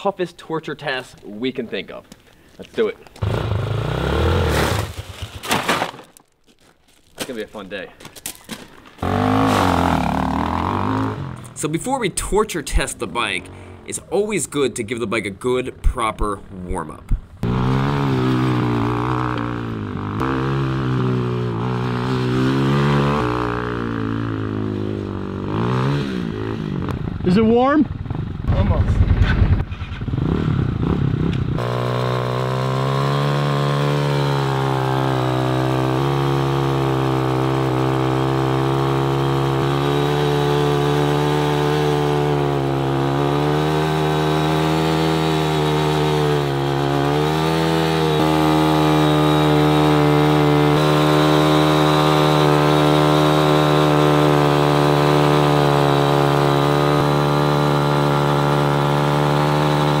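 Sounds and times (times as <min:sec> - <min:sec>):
dirt bike engine revving high: 0:03.2 - 0:05.1, 0:09.0 - 0:16.0, 0:17.4 - 0:28.8, 0:30.0 - 1:00.0.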